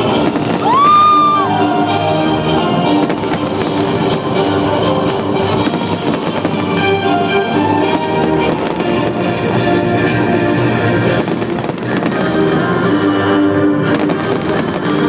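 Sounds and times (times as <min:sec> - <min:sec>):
fireworks bangs and crackles: 0:00.0 - 0:15.0
music with held notes: 0:00.0 - 0:15.0.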